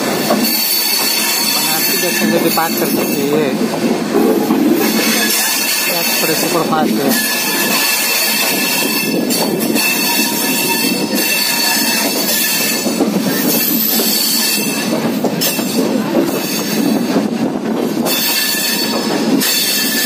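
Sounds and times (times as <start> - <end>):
train wheels rumbling on rails: 0.0 - 20.0
high wheel squeal: 0.4 - 3.5, 4.3 - 15.5, 18.1 - 20.0.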